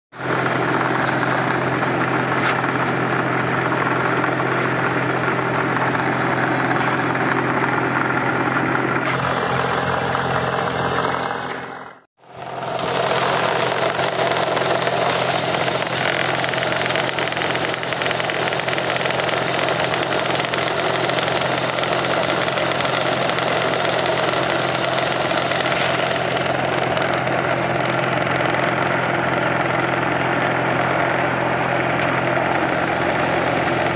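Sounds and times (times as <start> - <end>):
machinery humming: 0.2 - 33.9.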